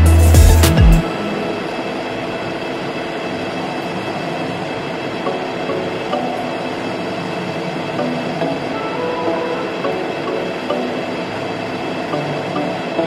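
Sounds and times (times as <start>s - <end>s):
metal lathe cutting: 0.0s - 13.0s.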